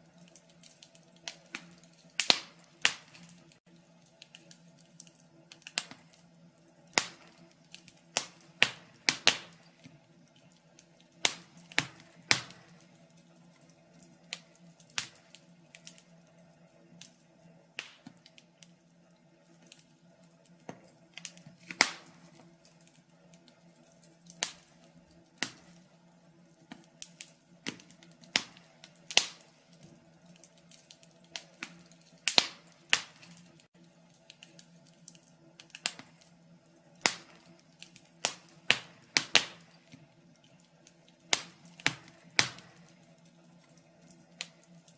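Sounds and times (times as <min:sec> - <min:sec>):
log fire crackling: 0:00.0 - 0:44.9.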